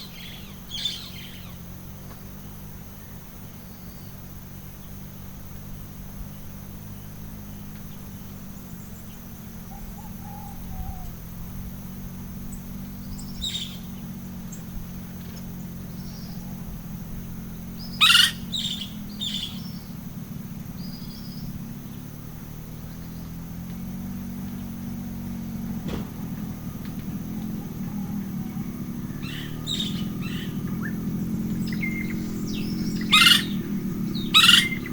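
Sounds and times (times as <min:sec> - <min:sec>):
bird calls: 0:00.0 - 0:02.2, 0:02.8 - 0:05.2, 0:06.5 - 0:11.5, 0:12.3 - 0:34.9
high insect tone: 0:00.0 - 0:34.9
steady low rumble: 0:00.0 - 0:34.9.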